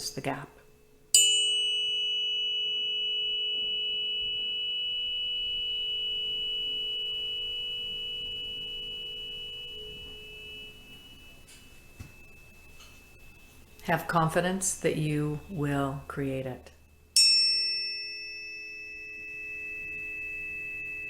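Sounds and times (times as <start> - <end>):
struck metal singing bowl ringing: 1.1 - 16.2, 17.2 - 21.0.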